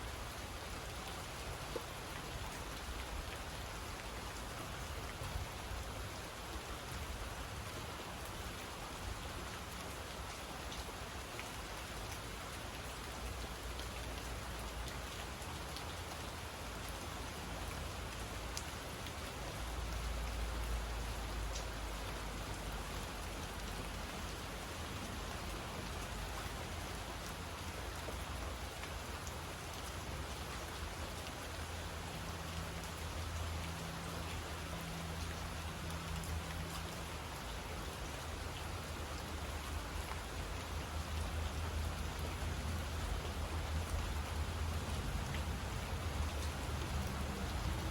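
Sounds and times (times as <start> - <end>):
raindrops striking close by: 0.0 - 47.9
steady rain falling: 0.0 - 47.9.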